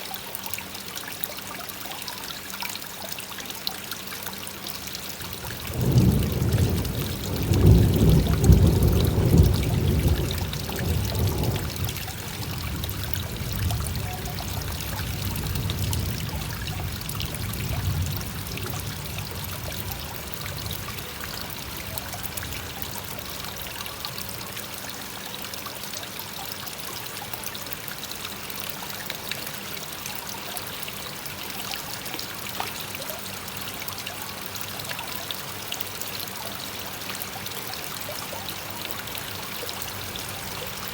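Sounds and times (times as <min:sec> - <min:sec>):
rain: 0:00.0 - 0:40.9
waterfall pouring into pond: 0:00.0 - 0:40.9.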